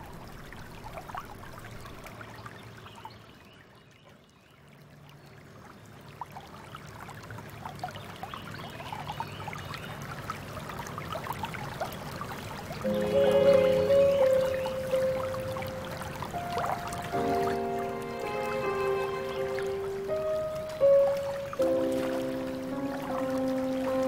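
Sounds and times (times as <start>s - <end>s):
river water flowing: 0.0s - 24.0s
small water splashes: 0.0s - 24.0s.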